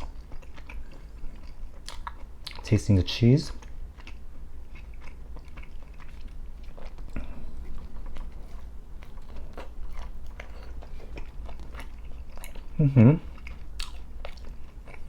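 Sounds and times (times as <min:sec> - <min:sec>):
person chewing food: 0:00.0 - 0:02.8, 0:03.5 - 0:15.0.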